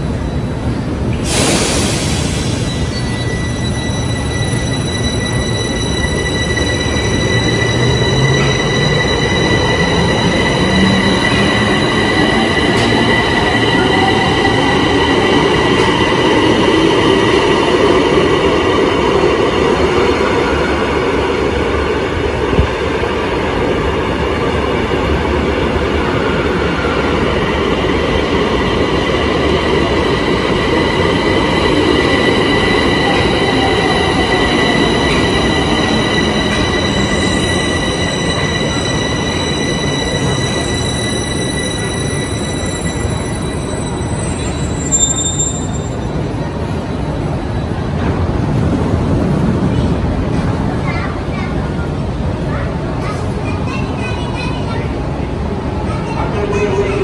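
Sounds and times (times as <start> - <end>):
metro train running: 0.0 - 57.0.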